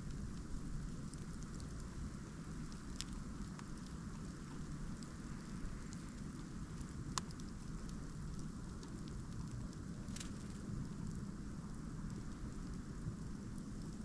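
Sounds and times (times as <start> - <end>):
snowstorm rumble: 0.0 - 14.0.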